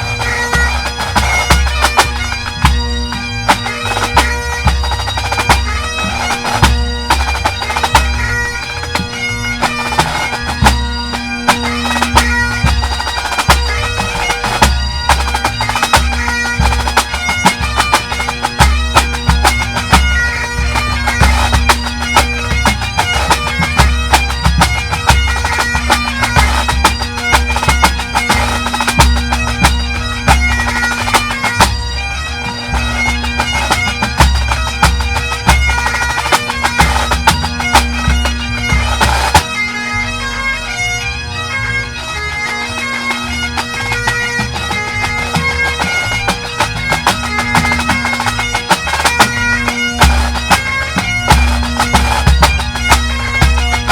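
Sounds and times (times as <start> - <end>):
snare and bass drums beating: 0.0 - 8.2, 8.8 - 31.8, 32.4 - 39.6, 43.6 - 53.9
bagpipes drone and melody: 0.0 - 53.9.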